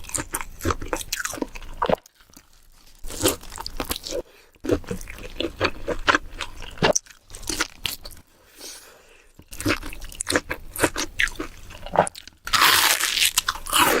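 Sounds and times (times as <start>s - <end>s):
crunchy bites and chewing: 0.0s - 8.3s, 9.4s - 14.0s.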